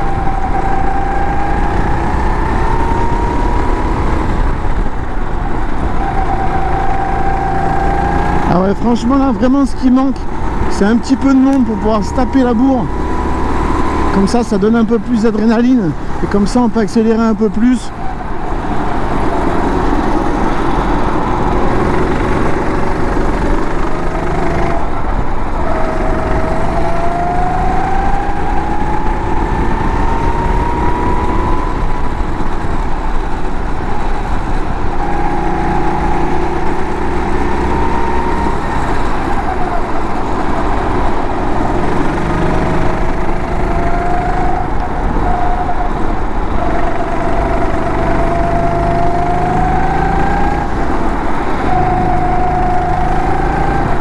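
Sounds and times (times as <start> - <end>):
go-kart engine accelerating: 0.0 - 54.0.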